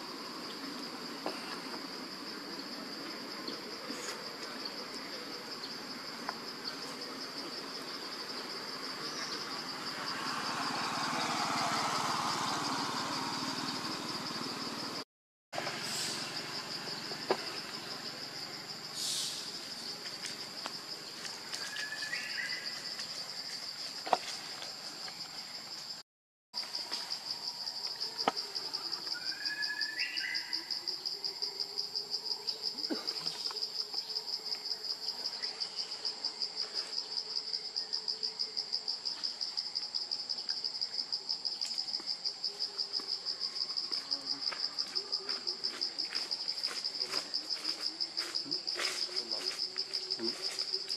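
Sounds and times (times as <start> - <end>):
insects buzzing: 0.0 - 15.0, 15.6 - 26.0, 26.6 - 50.9.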